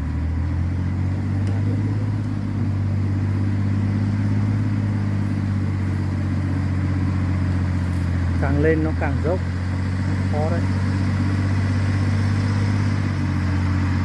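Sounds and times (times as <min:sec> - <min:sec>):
truck engine under load: 0:00.0 - 0:14.0.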